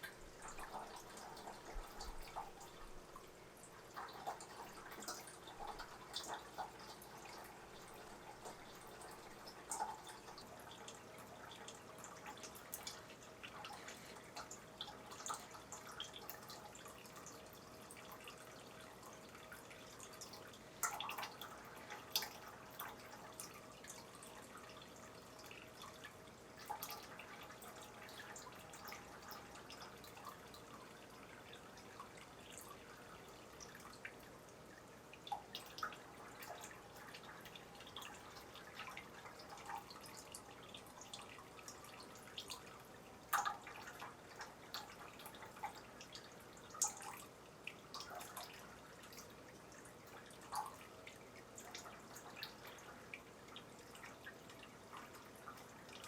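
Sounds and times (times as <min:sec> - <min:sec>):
faint steady hum: 0:00.0 - 0:56.0
water drips and splashes: 0:00.0 - 0:56.0.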